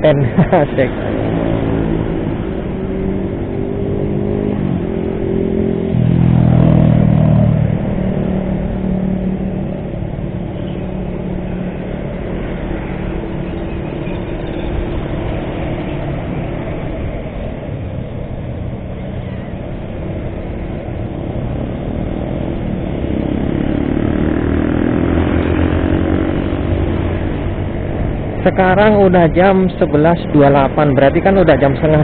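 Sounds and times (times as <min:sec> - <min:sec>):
road and wind noise: 0:00.0 - 0:32.0
scooter engine hum: 0:00.0 - 0:32.0.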